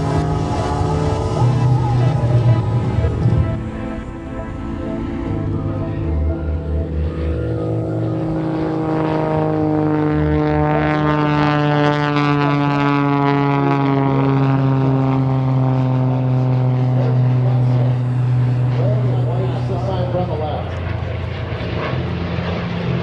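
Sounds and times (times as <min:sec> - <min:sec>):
propeller plane engine passing: 0:00.0 - 0:23.0.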